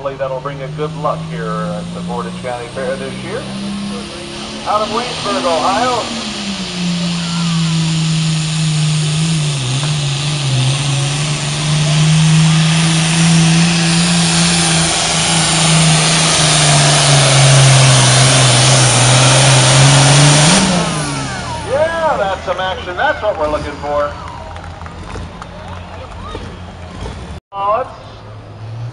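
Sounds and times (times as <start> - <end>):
tractor engine under heavy load: 0.0 - 28.9.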